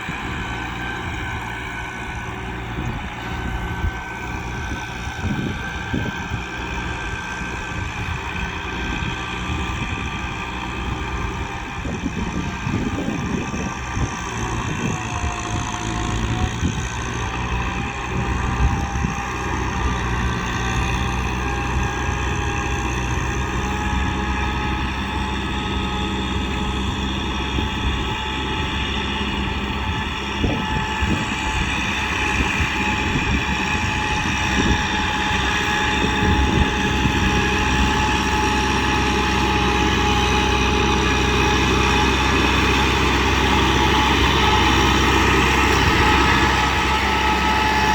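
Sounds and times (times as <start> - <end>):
steady whine: 0.0 - 47.9
tractor diesel engine running: 0.0 - 47.9.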